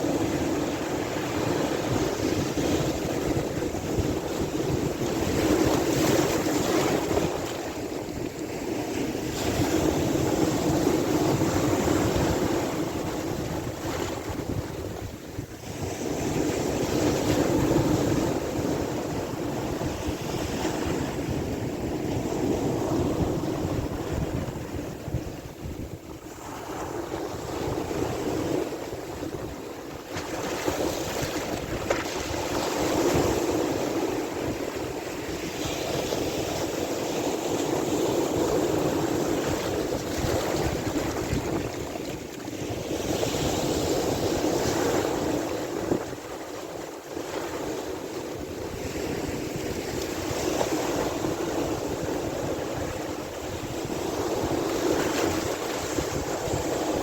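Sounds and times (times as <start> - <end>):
sea waves washing in: 0.0 - 57.0.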